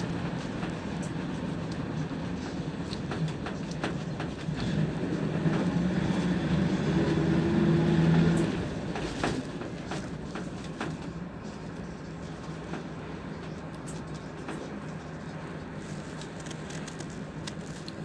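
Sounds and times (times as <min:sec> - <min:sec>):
bus body rattling: 0:00.0 - 0:17.8
bus engine accelerating: 0:00.0 - 0:18.0.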